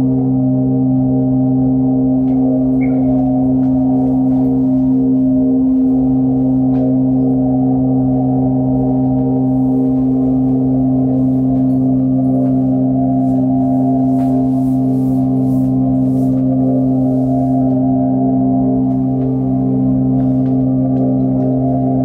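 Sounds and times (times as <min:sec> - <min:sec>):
ambient drone music: 0:00.0 - 0:22.0.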